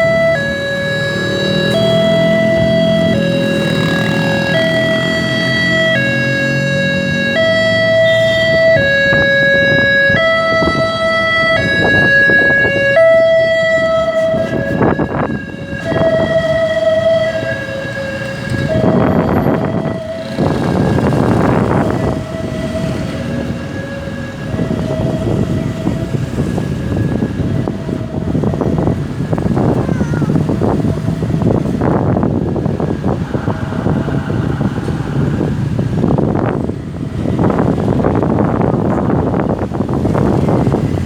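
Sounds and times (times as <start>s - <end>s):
traffic noise: 0.0s - 41.0s
two-tone electronic siren: 0.0s - 41.0s.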